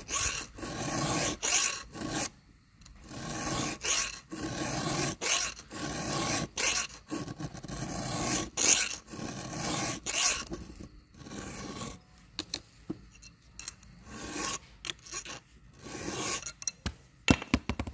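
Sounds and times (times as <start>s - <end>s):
file rasping on saw chain: 0.0s - 12.1s, 13.2s - 16.8s.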